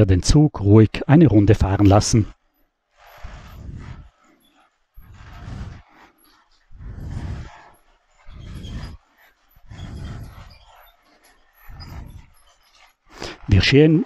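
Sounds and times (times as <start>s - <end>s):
toy train rumbling on track: 1.2s - 14.0s.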